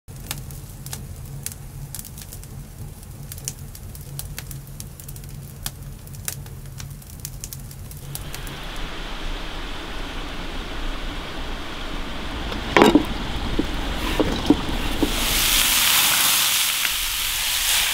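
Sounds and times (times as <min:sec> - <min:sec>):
campfire crackling and popping: 0:00.1 - 0:17.9
low roar of flames: 0:00.1 - 0:17.9
steady hiss: 0:00.1 - 0:17.9.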